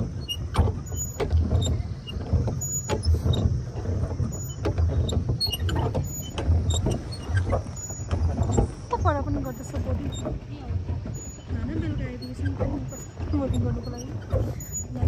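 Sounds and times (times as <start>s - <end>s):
boat engine low rumble: 0.0s - 15.0s
boat knocking on water: 0.0s - 15.0s
water splashing: 0.0s - 15.0s.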